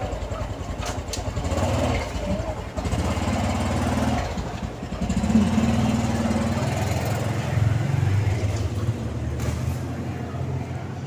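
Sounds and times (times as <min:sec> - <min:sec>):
small motorcycle engine running: 0:00.0 - 0:10.9.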